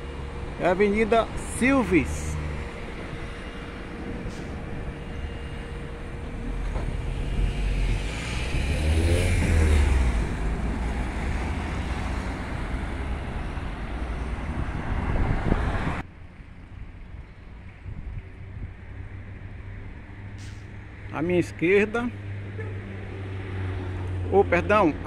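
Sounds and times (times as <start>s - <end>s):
vehicle driving past: 0.0s - 16.0s, 20.2s - 25.0s
traffic rumble: 0.0s - 25.0s.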